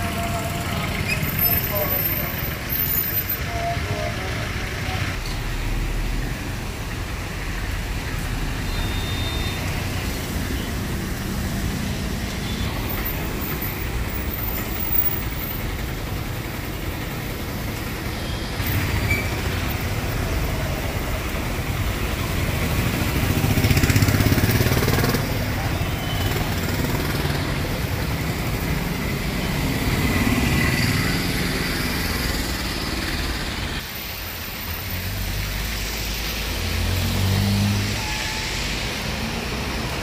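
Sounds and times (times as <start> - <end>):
car and motorbike engines: 0.0 - 40.0
tyres on wet road: 0.0 - 40.0.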